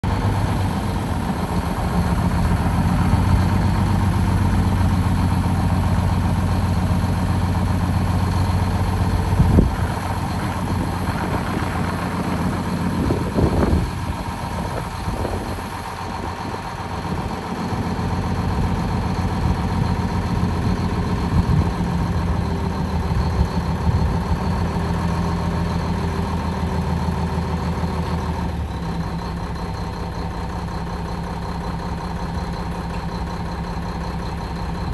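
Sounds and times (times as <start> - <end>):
truck diesel engine running: 0.0 - 34.9.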